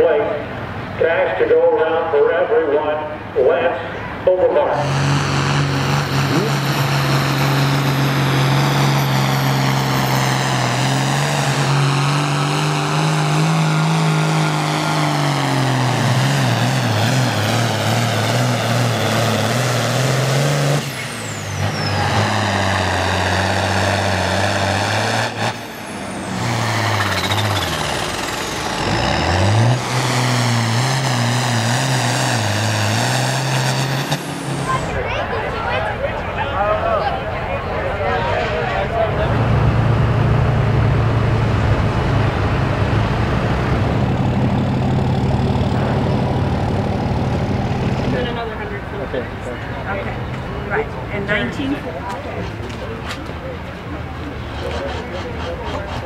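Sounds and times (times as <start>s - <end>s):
diesel tractor engines under load: 0.0s - 56.0s.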